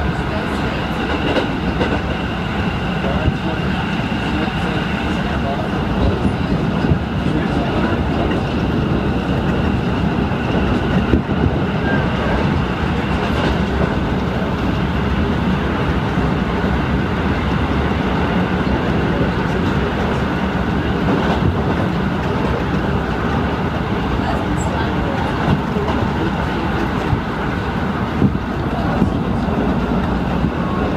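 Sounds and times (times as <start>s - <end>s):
train wheels rumbling on rails: 0.0s - 30.9s.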